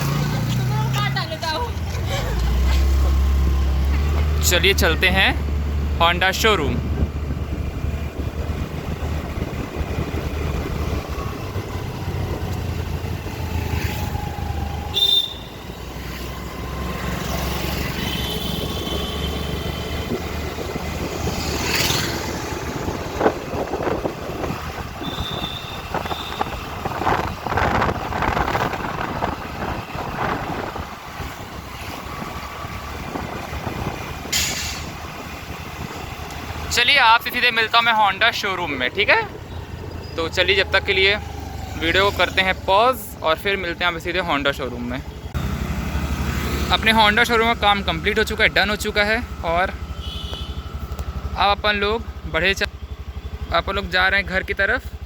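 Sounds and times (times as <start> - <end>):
scooter engine and road rumble: 0.0 - 55.0
vehicles passing: 0.0 - 55.0.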